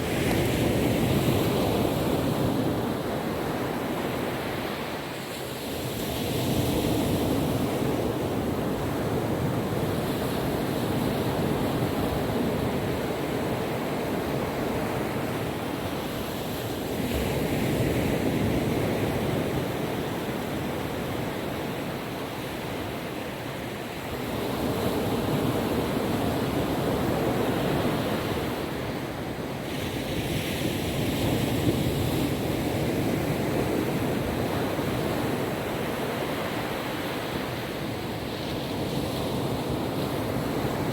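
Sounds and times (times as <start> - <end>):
ocean waves washing onto a beach: 0.0 - 40.9.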